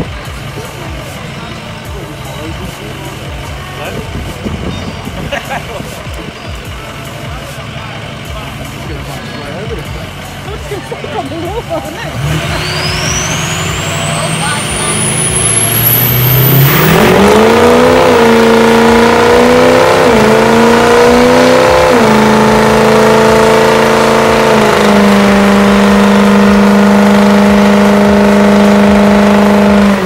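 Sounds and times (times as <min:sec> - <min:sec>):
diesel engine revving hard: 0:00.0 - 0:30.0.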